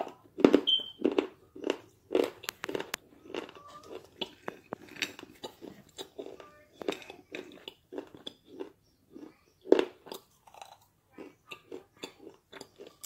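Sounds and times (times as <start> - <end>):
chewing crunchy clay: 0.0 - 13.0.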